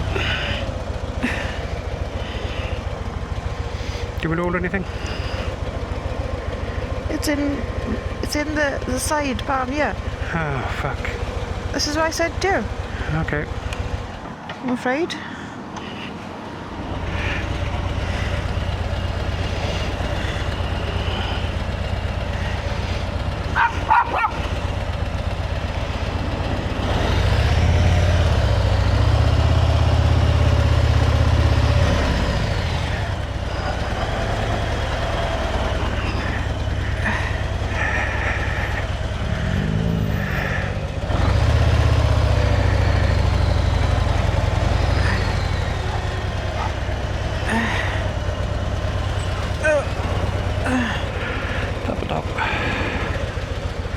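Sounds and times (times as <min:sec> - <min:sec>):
motorcycle engine rumbling: 0:00.0 - 0:53.9.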